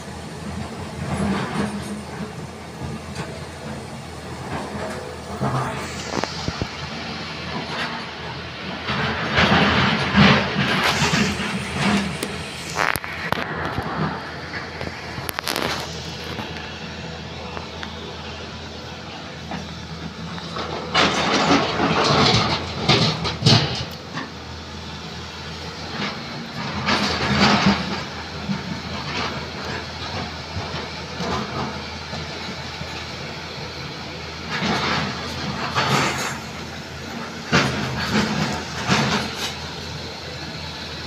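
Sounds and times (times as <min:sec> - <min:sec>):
diesel excavator engine running: 0:00.0 - 0:41.0.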